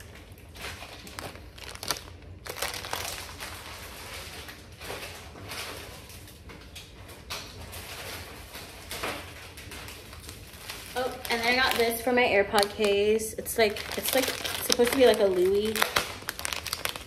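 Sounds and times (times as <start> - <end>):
plastic bags rustling: 0.0 - 6.4, 7.6 - 17.0.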